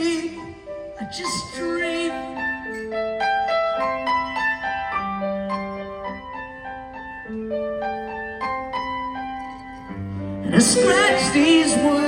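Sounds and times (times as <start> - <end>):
piano playing: 0.0 - 12.0.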